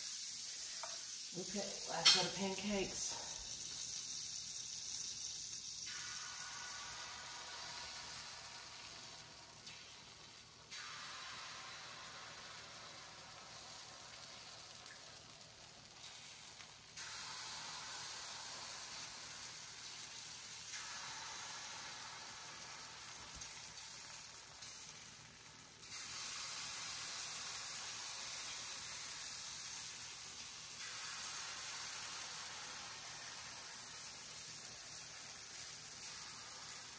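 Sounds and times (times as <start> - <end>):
pancake batter sizzling: 0.0 - 36.9.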